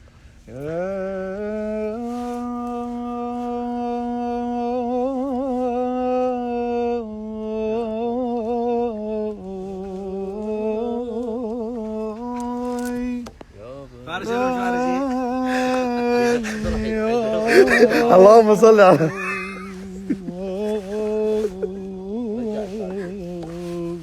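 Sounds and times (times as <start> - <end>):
man singing unaccompanied: 0.4 - 24.0.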